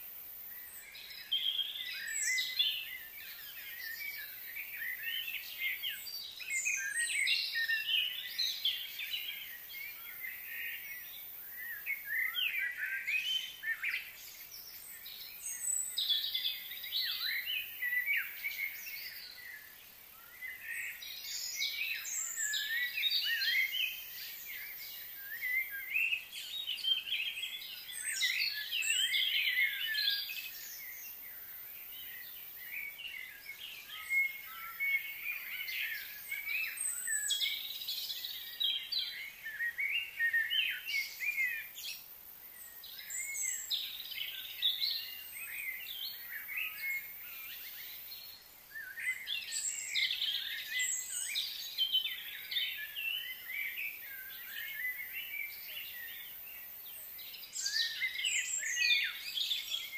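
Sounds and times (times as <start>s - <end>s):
faint high hiss: 0.0s - 59.9s
birds chirping and singing: 0.4s - 59.9s.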